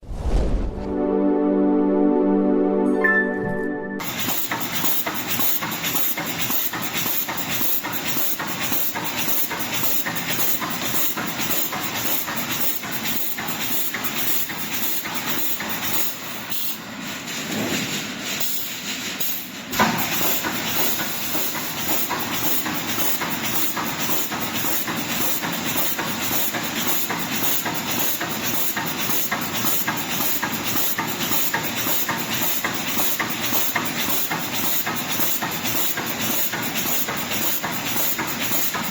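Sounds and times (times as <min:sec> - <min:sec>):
welding machine hissing and clattering: 0:04.0 - 0:38.9.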